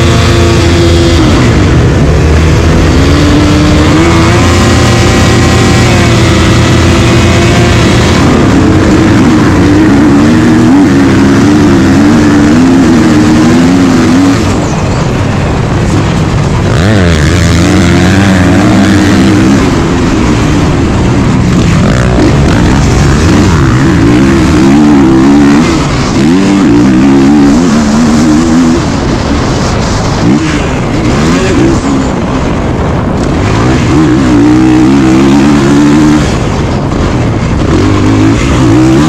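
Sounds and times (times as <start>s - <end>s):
motocross engine revving: 0.0s - 39.0s.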